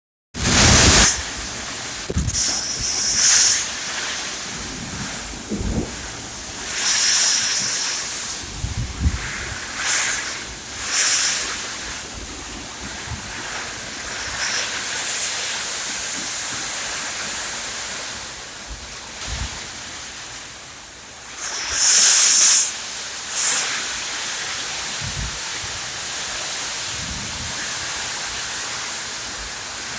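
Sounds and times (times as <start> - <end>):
heavy rain hissing: 0.4 - 29.9.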